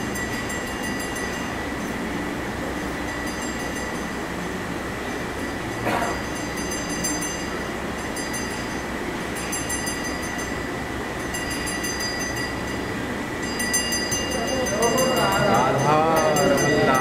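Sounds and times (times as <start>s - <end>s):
temple bells ringing: 2.7s - 17.0s.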